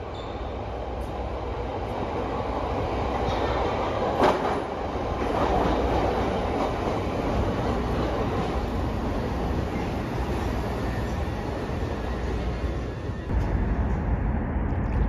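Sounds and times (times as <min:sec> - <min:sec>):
subway train wheels rumbling: 0:00.0 - 0:15.0.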